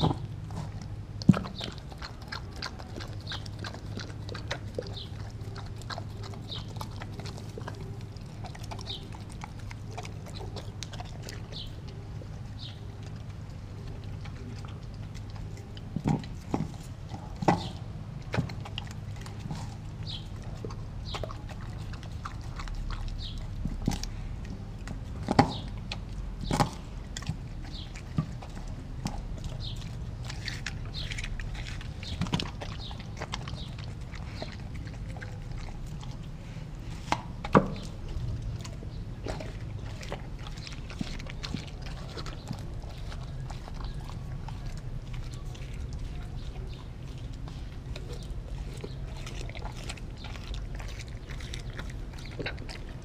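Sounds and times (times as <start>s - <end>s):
dog chewing frozen meat: 0.0s - 53.0s.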